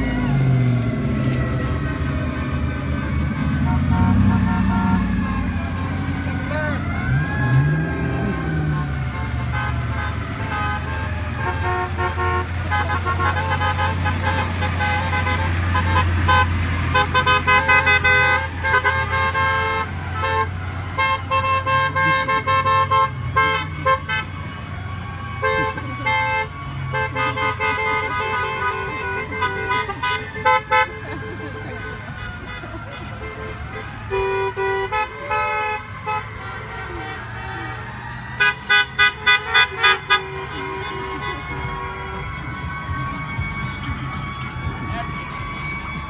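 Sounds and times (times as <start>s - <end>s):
car horns honking: 3.1s - 45.2s.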